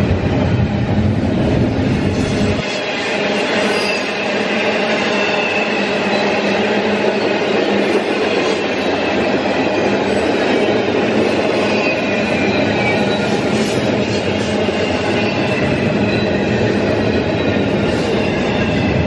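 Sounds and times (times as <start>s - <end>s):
steel wheels rumbling on rail: 0.0s - 19.0s
faint high wheel squeal: 2.2s - 19.0s.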